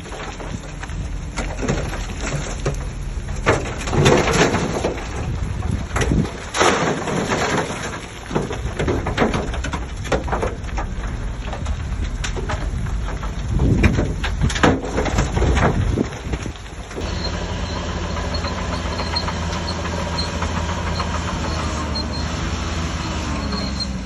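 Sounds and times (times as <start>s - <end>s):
bulldozer engine rumbling: 0.0s - 24.0s
soil and stones scraping: 0.0s - 24.0s.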